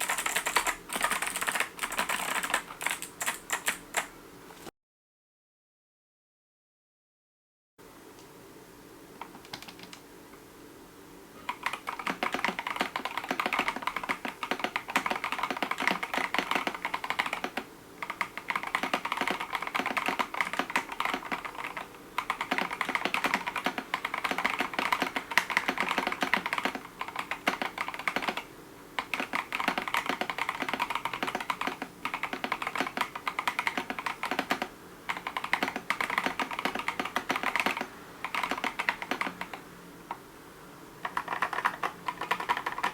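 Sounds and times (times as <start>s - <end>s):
fast keyboard typing clicks: 0.0s - 4.1s, 9.2s - 10.0s, 11.5s - 40.2s, 41.0s - 42.9s.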